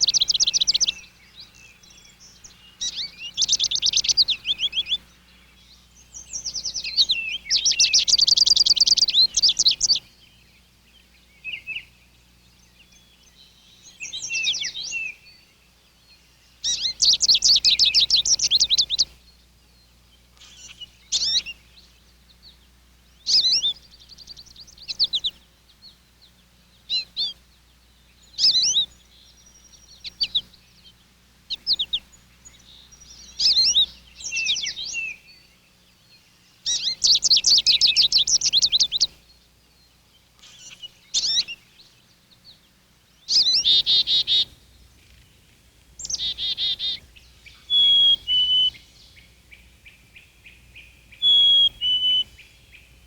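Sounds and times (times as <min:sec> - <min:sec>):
faint low hum: 0:00.0 - 0:53.0
songbirds singing and calling: 0:00.0 - 0:53.0.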